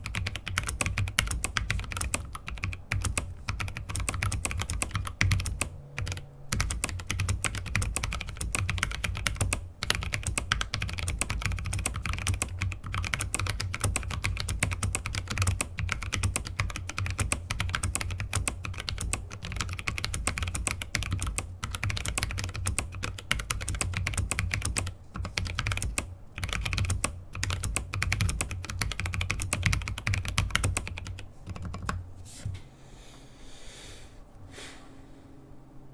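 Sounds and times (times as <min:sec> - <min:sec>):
mechanical keyboard typing: 0:00.0 - 0:32.0.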